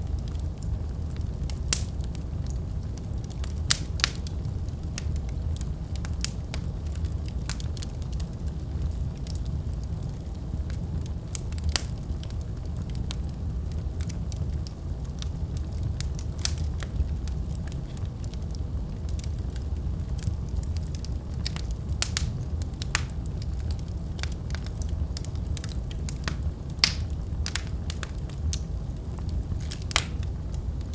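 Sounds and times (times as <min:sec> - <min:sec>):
wood fire crackling and popping: 0:00.0 - 0:30.9.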